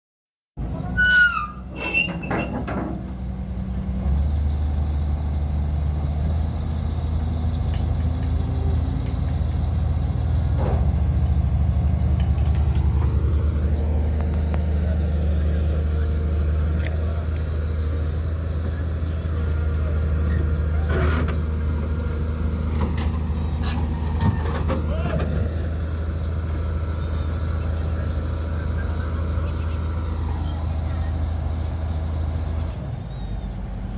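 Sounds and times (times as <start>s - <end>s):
excavator diesel engine: 0.6s - 33.9s.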